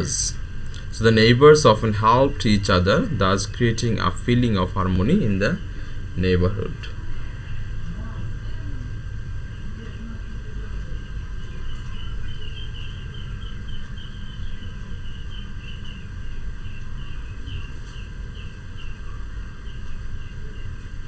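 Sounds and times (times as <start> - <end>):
bird chirping: 0.0 - 20.8.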